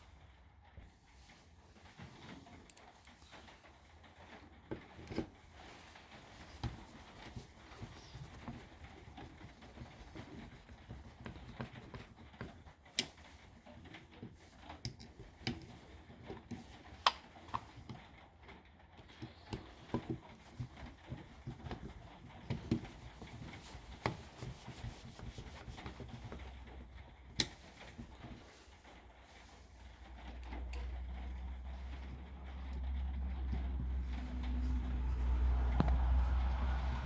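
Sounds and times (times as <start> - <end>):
small clicks and taps of handling: 0.8 - 36.4.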